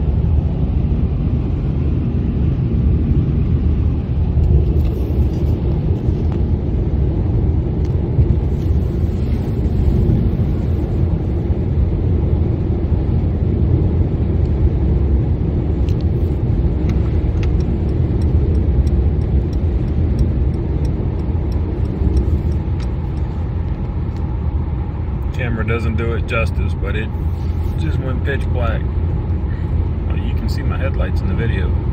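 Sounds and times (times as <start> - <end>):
car road and engine rumble: 0.0 - 31.9.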